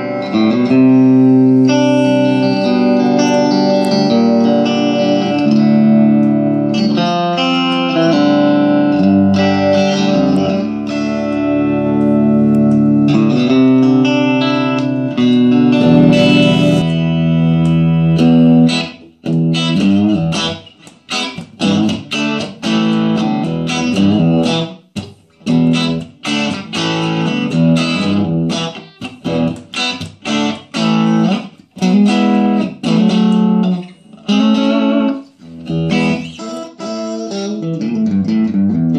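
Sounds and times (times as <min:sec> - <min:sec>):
electric guitar chords: 0:00.0 - 0:38.9.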